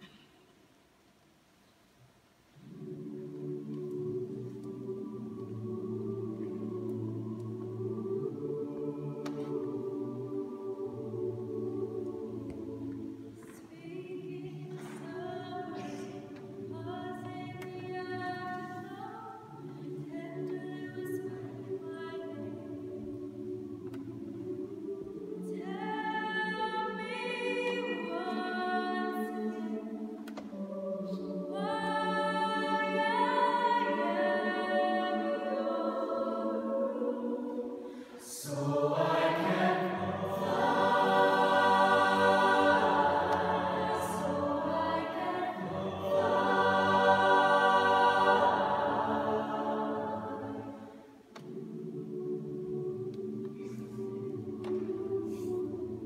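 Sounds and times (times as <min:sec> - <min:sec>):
choir singing: 0:02.6 - 0:56.0.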